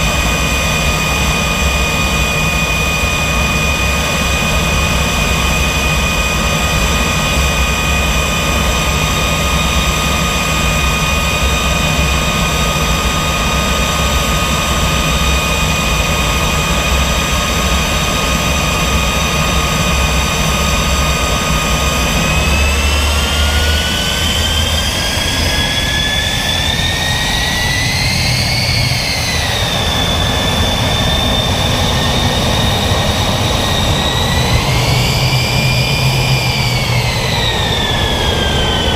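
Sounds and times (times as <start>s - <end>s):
jet turbine engine whine: 0.0s - 38.9s.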